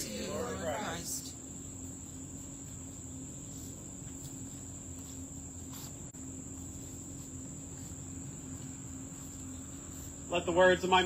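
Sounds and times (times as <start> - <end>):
insects trilling: 0.0 - 11.0
low steady hum: 0.0 - 11.0.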